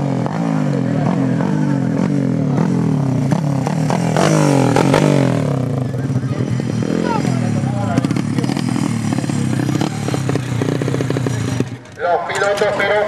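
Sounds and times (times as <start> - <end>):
kart engines running hard: 0.0 - 13.0.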